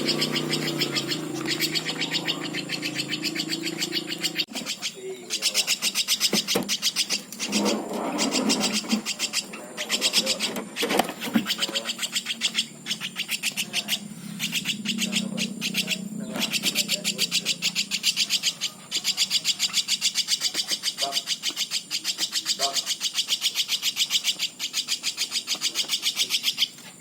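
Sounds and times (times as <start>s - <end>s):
woodpecker chicks begging: 0.0s - 27.0s.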